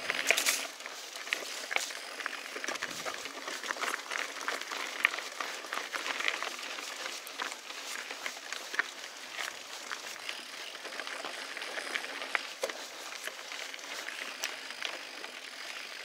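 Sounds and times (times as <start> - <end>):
bike rattles and clicks: 0.0 - 16.0
bike tyres on dirt: 0.0 - 16.0.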